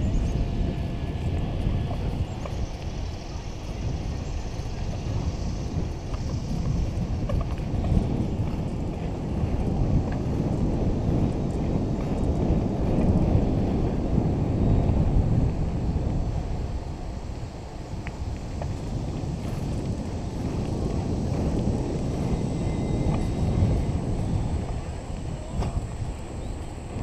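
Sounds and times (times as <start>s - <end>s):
road noise: 0.0s - 27.0s
wind buffeting microphone: 0.0s - 27.0s.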